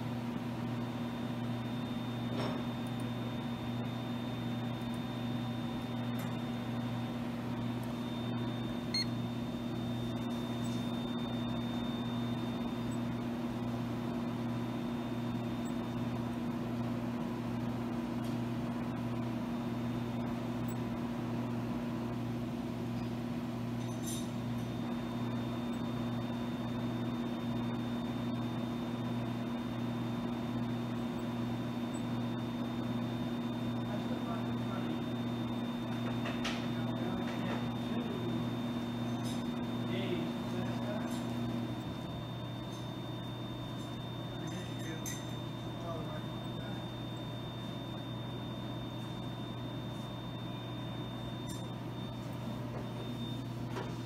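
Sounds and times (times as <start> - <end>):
measuring machine hum: 0.0 - 54.0
faint high whine: 1.0 - 16.8, 23.8 - 54.0.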